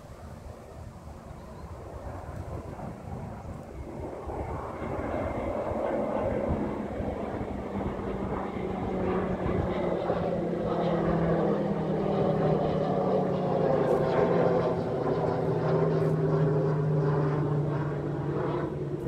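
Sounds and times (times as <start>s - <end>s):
aircraft engine drone overhead: 0.0s - 19.0s.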